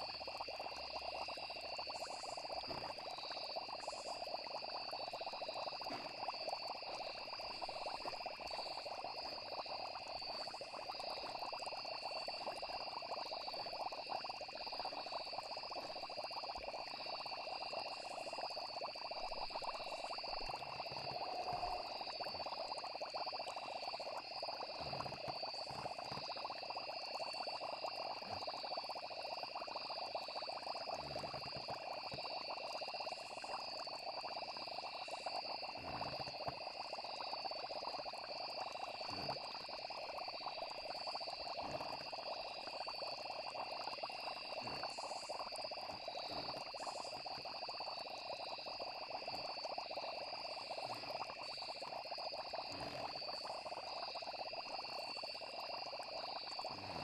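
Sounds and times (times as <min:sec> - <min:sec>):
frogs trilling: 0:00.0 - 0:57.0
insects trilling: 0:00.0 - 0:57.0
low plops: 0:00.0 - 0:57.0
water bubbling: 0:00.0 - 0:57.0.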